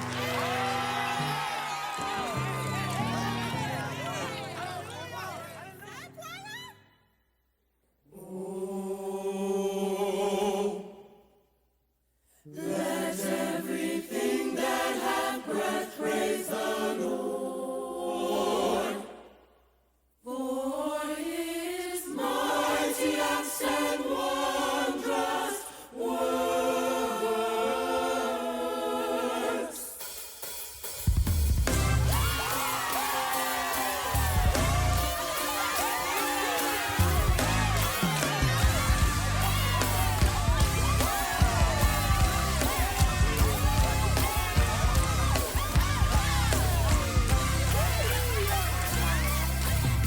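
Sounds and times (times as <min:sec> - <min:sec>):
choir singing unaccompanied: 0:00.0 - 0:05.7, 0:08.1 - 0:11.2, 0:12.5 - 0:19.4, 0:20.2 - 0:30.1, 0:31.7 - 0:49.8.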